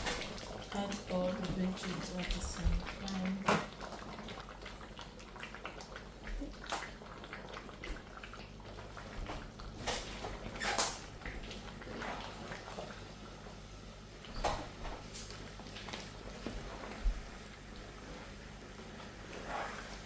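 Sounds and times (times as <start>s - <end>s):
curry simmering with pops: 0.0s - 20.0s.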